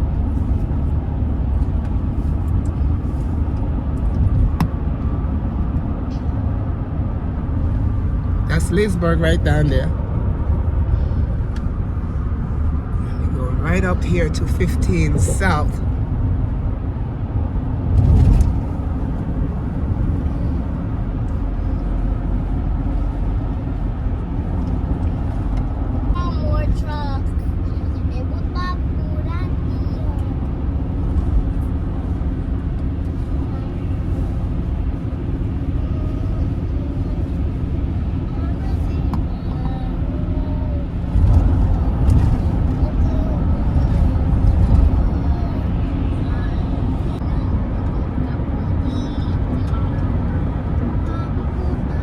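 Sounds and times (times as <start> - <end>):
car driving on highway: 0.0 - 52.0.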